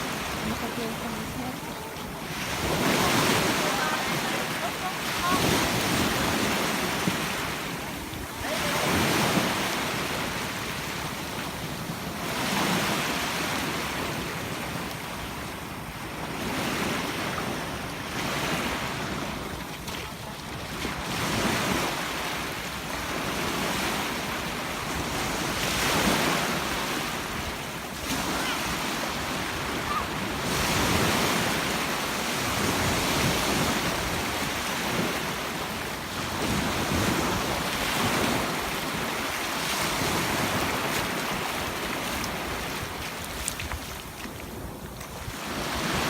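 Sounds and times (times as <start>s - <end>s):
waves breaking on beach: 0.0s - 46.0s.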